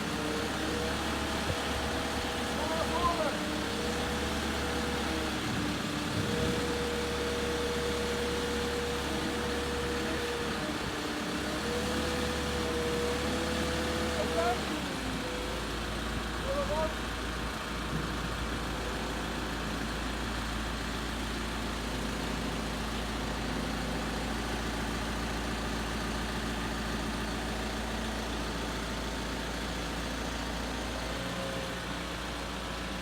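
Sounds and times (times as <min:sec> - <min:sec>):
forklift engine running: 0:00.0 - 0:33.0.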